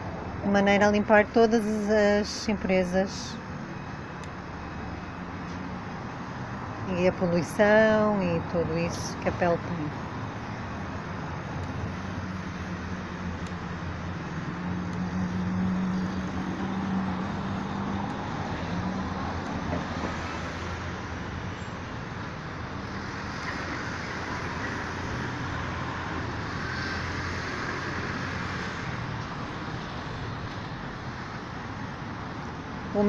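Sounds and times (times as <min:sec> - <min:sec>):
cars passing: 0:00.0 - 0:33.0.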